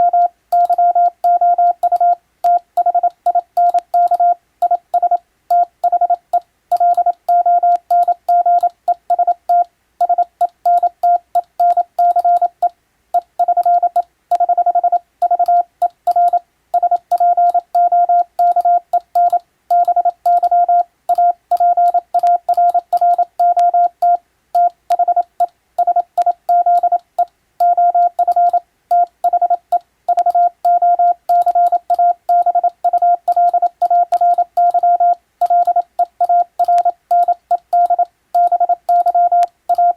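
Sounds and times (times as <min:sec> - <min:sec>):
morse code tone: 0:00.0 - 0:27.0, 0:27.6 - 0:39.9.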